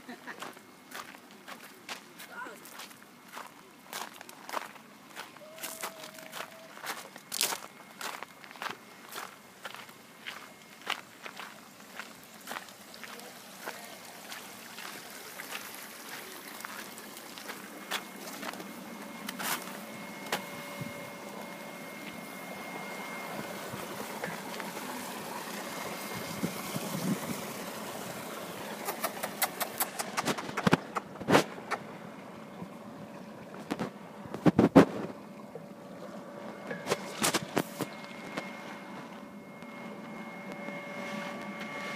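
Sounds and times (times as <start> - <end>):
faint steady tone: 0.0 - 28.6, 35.2 - 41.9
water running in fish tank: 0.0 - 29.9, 30.8 - 40.4.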